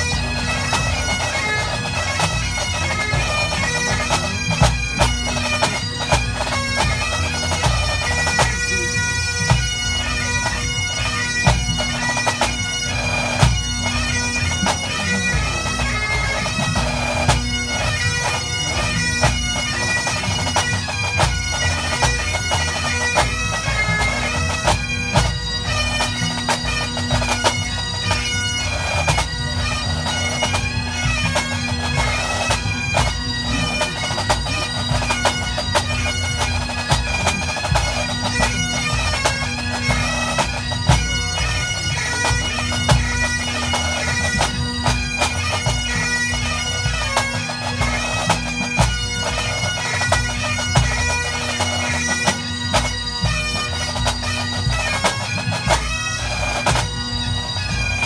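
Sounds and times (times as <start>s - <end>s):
bagpipes playing: 0.0s - 58.0s
drums beating: 0.0s - 58.0s.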